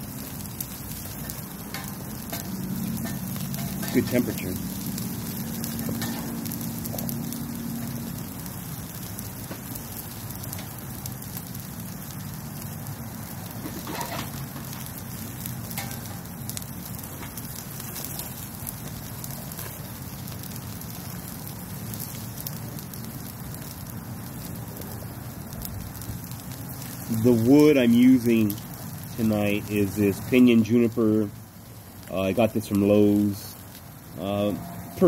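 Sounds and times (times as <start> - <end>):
fire pops: 0.0 - 34.2
steaks sizzling on a grill: 0.0 - 35.0
wood fire crackling: 0.0 - 35.0.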